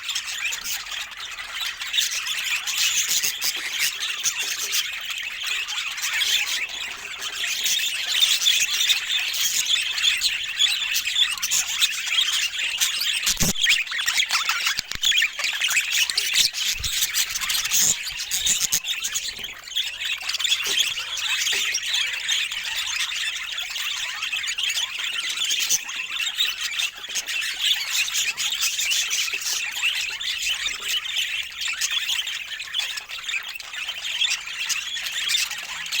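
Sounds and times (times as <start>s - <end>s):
budgies chattering and squawking: 0.0s - 36.0s.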